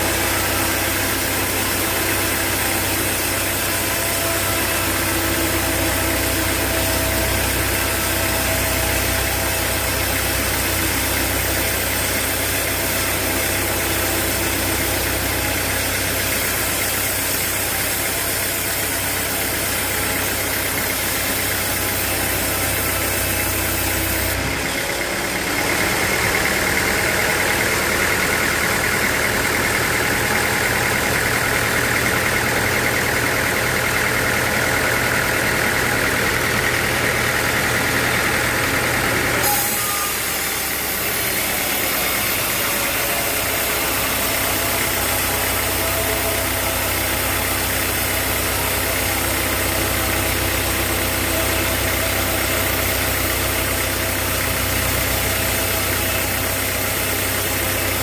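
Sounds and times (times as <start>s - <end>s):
high steady machine whine: 0.0s - 58.0s
sawmill machinery humming: 0.0s - 58.0s.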